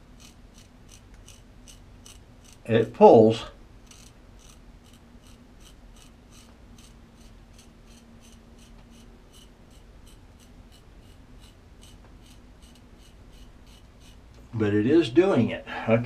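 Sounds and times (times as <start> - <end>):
knife blade scraping beard whiskers: 0.0 - 2.7, 3.8 - 14.2.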